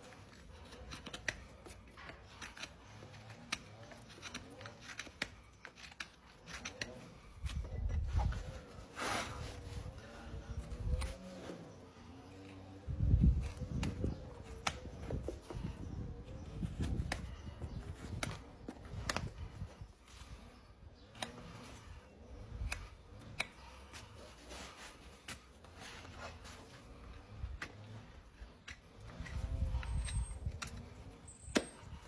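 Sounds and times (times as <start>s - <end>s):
tool scraping dirt from hoof: 0.0s - 32.0s.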